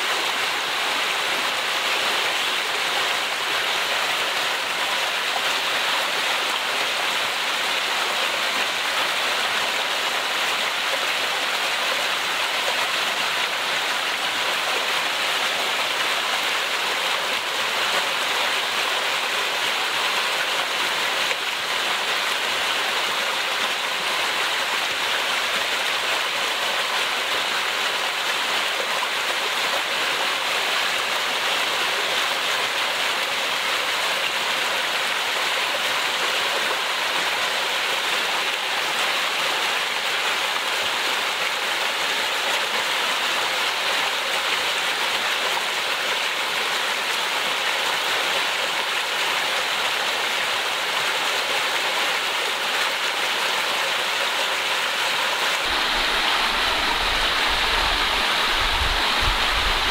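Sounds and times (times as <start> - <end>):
stream splashing over rocks: 0.0 - 59.9.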